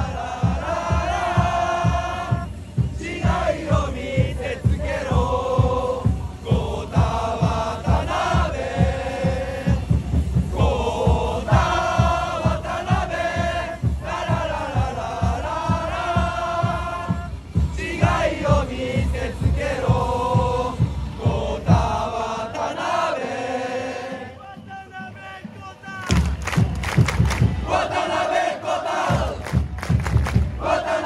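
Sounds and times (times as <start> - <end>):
steady beat: 0.0 - 23.3, 24.5 - 31.0
crowd chanting in unison: 0.0 - 24.7, 26.0 - 31.0.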